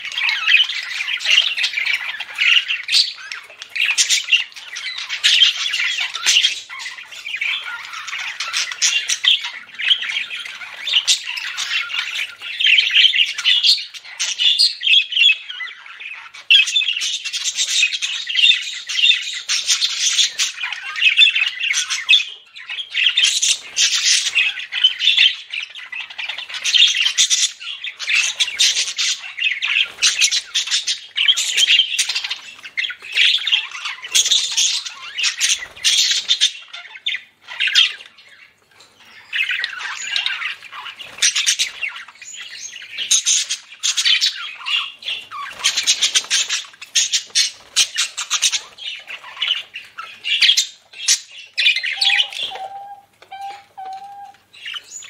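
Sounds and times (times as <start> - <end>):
budgerigars chattering and warbling: 0.0 - 55.0.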